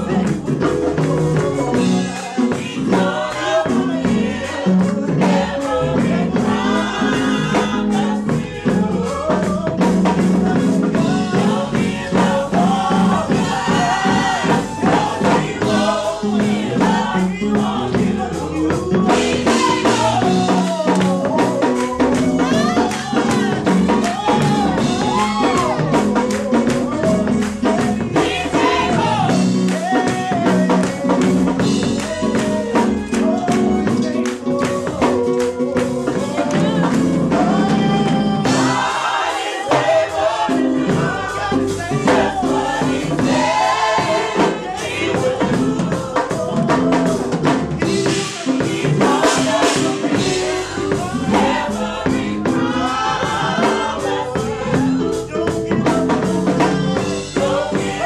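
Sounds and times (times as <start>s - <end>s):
band with drums: 0.0s - 58.0s
gospel group singing: 0.0s - 58.0s.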